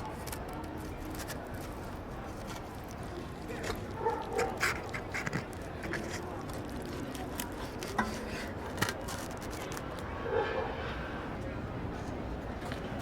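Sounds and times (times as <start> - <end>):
background bustle: 0.0 - 13.0.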